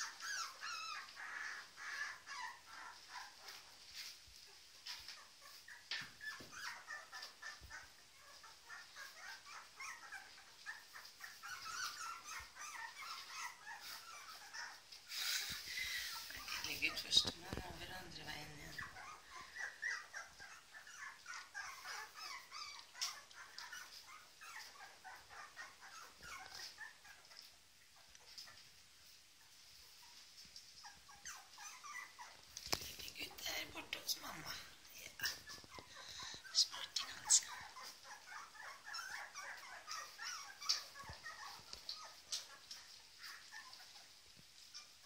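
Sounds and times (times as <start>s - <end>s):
puppies whimpering and squeaking: 0.0s - 45.0s.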